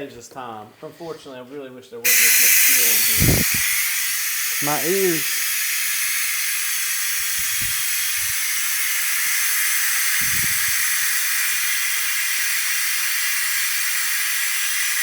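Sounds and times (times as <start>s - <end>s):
compressed air hissing: 2.1s - 15.0s.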